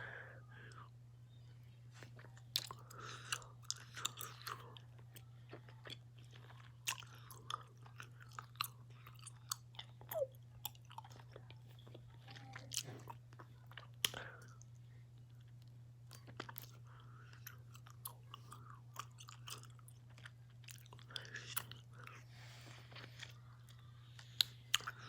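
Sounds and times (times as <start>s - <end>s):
faint low hum: 0.0s - 25.0s
mouth chewing clicks and smacks: 2.2s - 14.7s, 15.3s - 22.2s, 23.0s - 25.0s.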